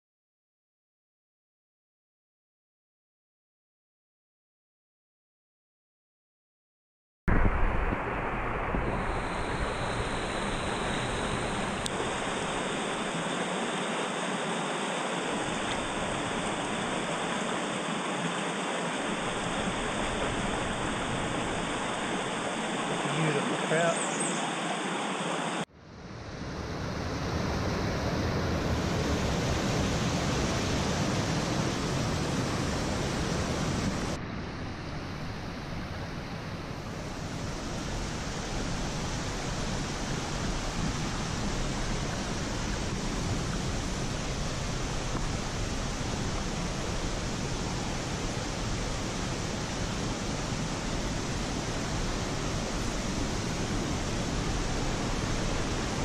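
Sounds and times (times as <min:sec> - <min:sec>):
creek water flowing: 0:07.4 - 0:34.2, 0:35.5 - 0:56.0.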